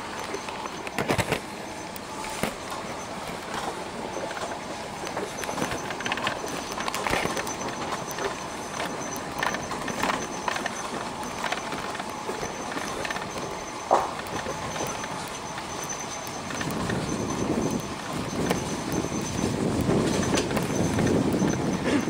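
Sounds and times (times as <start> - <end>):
vehicle driving on dirt track: 0.0 - 22.0.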